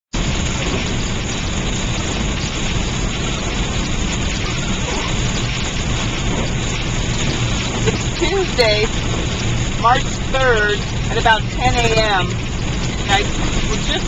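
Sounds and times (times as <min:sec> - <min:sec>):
rain and wet snow hitting car: 0:00.1 - 0:14.0
road and engine rumble: 0:00.1 - 0:14.0.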